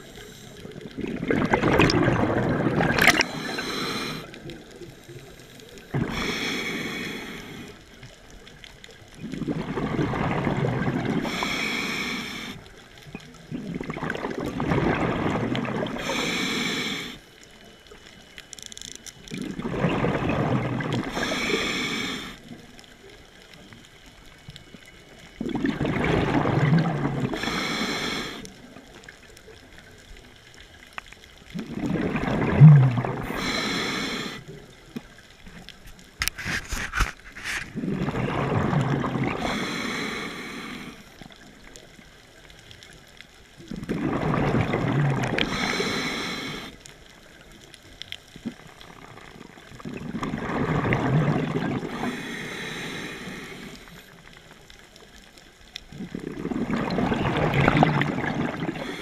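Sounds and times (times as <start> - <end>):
exhaled bubbles gurgling: 0.0 - 18.1, 19.2 - 23.5, 24.5 - 35.9, 36.5 - 59.0.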